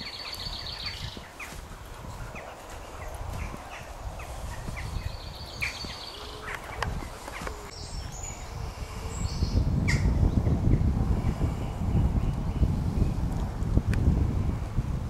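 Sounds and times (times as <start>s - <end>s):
birds chirping and calling: 0.0s - 13.2s.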